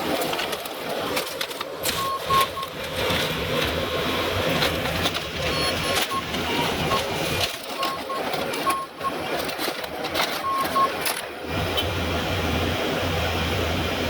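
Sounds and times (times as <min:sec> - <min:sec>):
debris clanking and crunching: 0:00.0 - 0:11.4
demolition machine engine rumble: 0:00.0 - 0:14.0.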